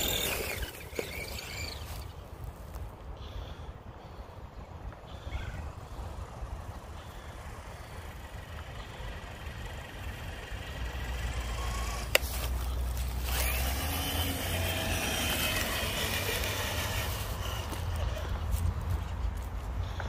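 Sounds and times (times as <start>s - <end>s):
rc truck motor and gear whine: 0.0s - 3.6s, 4.4s - 20.0s.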